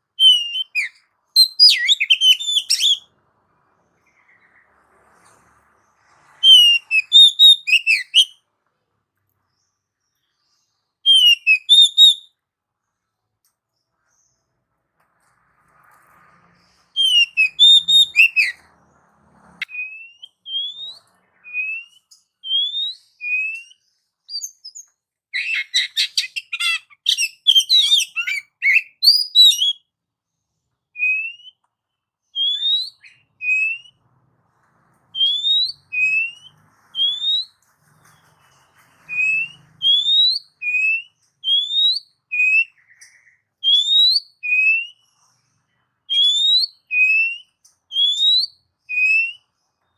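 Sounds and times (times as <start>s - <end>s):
songbird whistling song: 0.0s - 8.5s, 9.4s - 12.4s, 16.6s - 18.8s, 19.6s - 30.0s, 30.8s - 34.0s, 35.1s - 49.9s.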